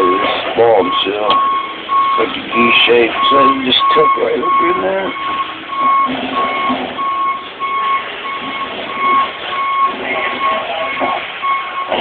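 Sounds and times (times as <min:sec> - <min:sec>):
reversing alarm beeping: 0:00.0 - 0:12.0.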